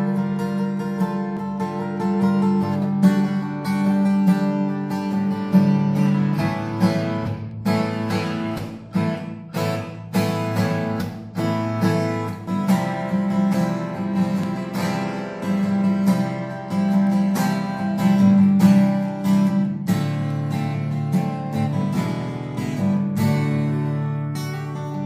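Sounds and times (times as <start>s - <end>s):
acoustic guitar strummed: 0.0s - 25.0s.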